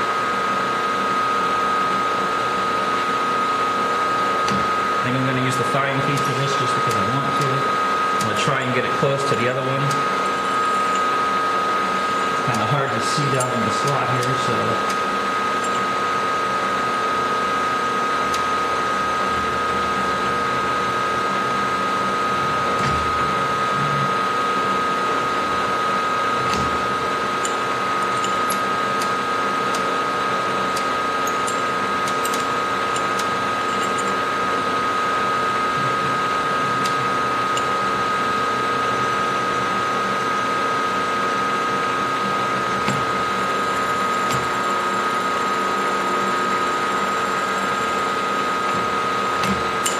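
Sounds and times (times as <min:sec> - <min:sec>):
milling machine whine: 0:00.0 - 0:49.9.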